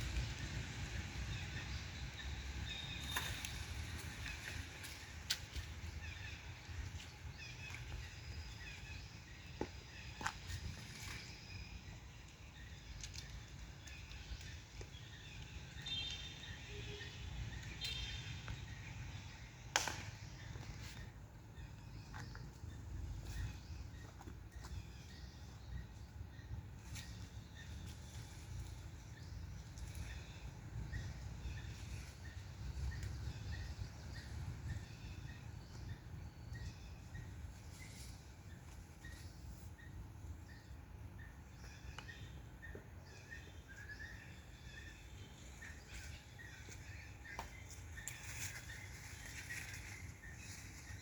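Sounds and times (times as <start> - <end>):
low steady rumble: 0.0 - 51.0
bird chirping: 1.2 - 51.0.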